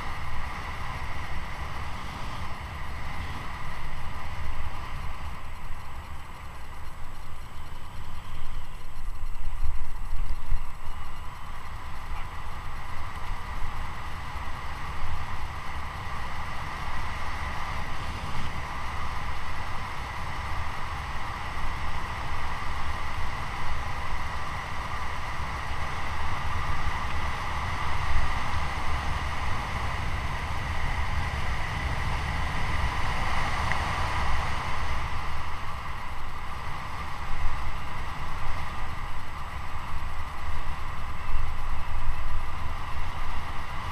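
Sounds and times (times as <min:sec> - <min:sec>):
bike wheels whirring hum: 0:00.0 - 0:43.9.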